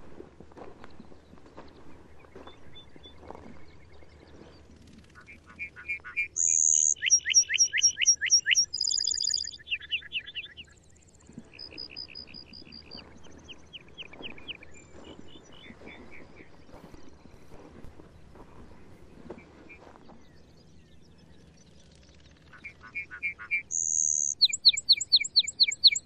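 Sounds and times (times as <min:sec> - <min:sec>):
bird singing: 0:01.2 - 0:26.0.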